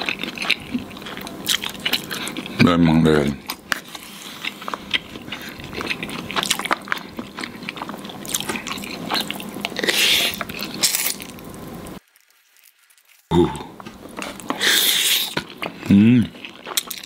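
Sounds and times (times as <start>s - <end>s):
person slurping and chewing: 0.0s - 2.7s, 3.4s - 17.0s.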